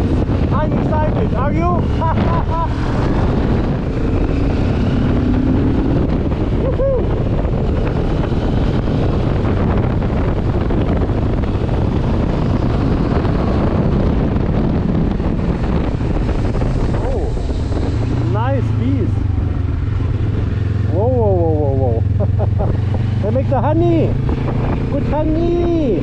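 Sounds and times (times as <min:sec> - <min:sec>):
motorcycle engine accelerating: 0:00.0 - 0:26.0
wind rushing over microphone: 0:00.0 - 0:26.0.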